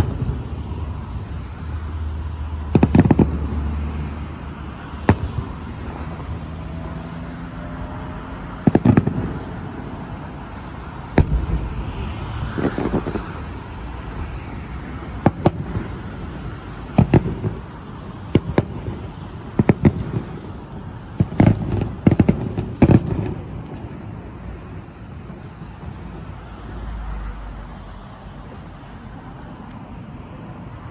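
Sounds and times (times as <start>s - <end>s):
fireworks bangs: 0.0s - 27.2s.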